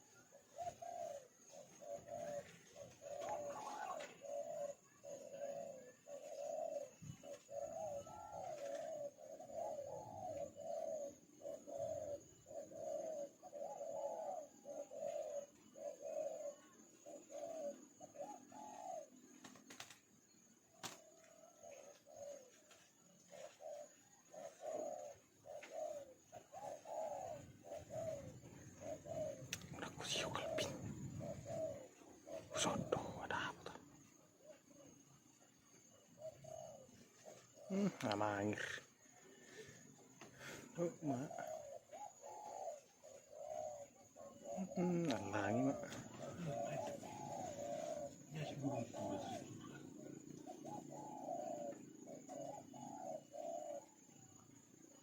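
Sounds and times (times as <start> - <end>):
bird cooing: 0.0 - 55.0.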